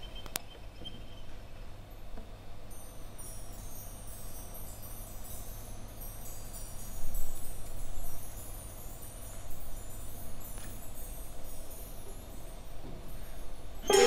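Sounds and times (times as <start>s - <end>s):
high chime-like tones: 2.7s - 14.0s.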